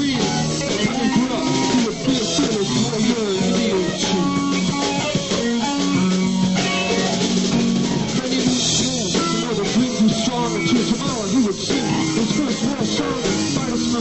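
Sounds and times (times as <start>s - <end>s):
drum kit: 0.0s - 14.0s
electric guitar lead lines: 0.0s - 14.0s.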